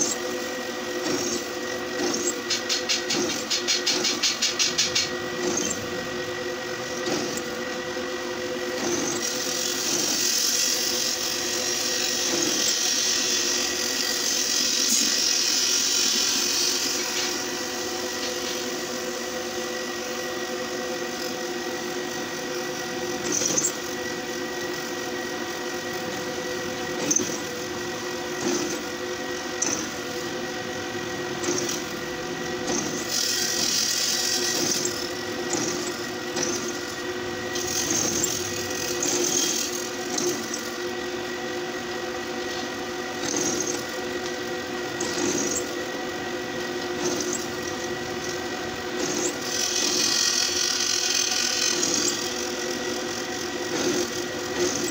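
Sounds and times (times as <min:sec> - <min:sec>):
drill bit cutting steel: 0:00.0 - 0:54.9
drill press motor whine: 0:00.0 - 0:54.9.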